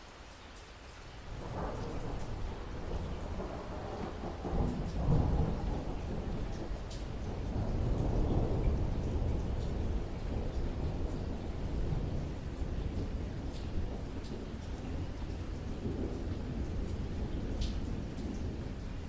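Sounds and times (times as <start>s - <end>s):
rain: 0.0s - 19.0s
thunder rumbling: 1.3s - 19.0s.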